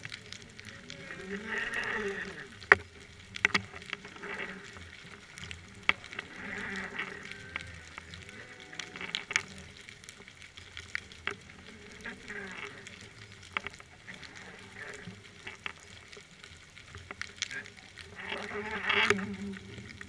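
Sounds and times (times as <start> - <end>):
faint underwater hiss: 0.0 - 20.0
soft water swells: 0.0 - 20.0
underwater clicks and crackles: 0.0 - 20.0.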